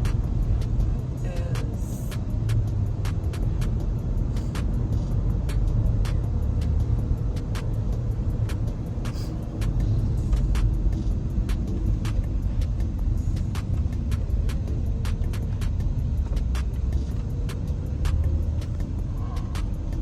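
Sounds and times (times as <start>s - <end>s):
road and tyre rumble in car: 0.0s - 20.0s.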